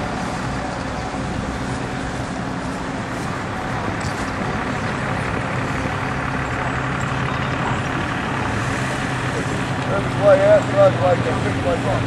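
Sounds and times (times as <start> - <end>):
outdoor background noise: 0.0 - 12.0
vehicle engine humming: 0.0 - 12.0.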